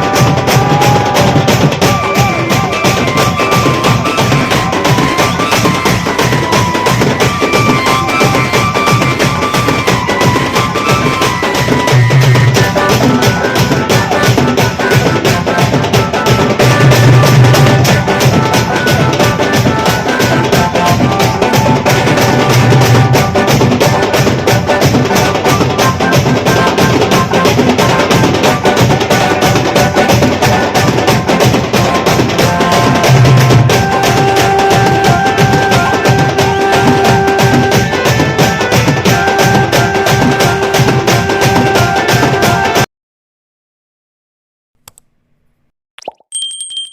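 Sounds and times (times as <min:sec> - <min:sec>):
fast dense drumming: 0:00.0 - 0:42.8
band party music: 0:00.0 - 0:42.9
held high melody line: 0:01.6 - 0:42.8.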